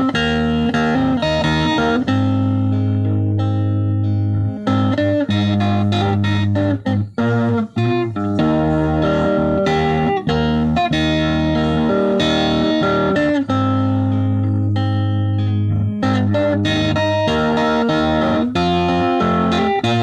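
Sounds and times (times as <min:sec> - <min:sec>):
electric guitar melody: 0:00.0 - 0:20.0.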